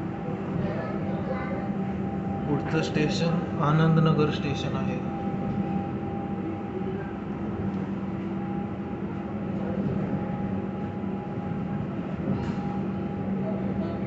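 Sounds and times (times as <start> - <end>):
low equipment tones: 0.0 - 14.0
train coach hum: 0.0 - 14.0.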